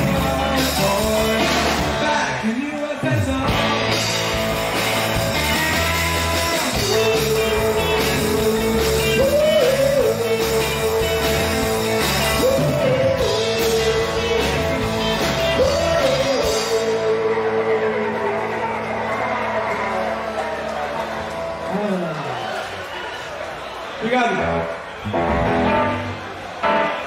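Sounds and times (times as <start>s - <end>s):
live rock band playing: 0.0s - 22.2s, 24.3s - 27.0s.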